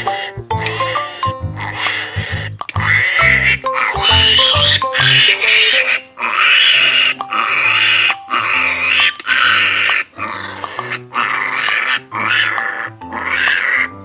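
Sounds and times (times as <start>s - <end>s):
light background music: 0.0s - 14.0s
piglet squealing: 0.0s - 14.0s.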